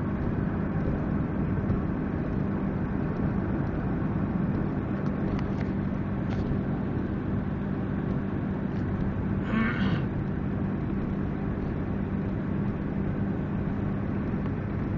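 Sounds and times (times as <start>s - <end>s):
vehicle running hum: 0.0s - 14.9s.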